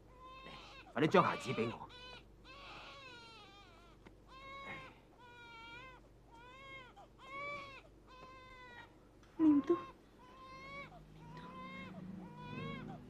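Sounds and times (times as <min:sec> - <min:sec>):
infant crying: 0:00.1 - 0:09.0, 0:09.6 - 0:13.0.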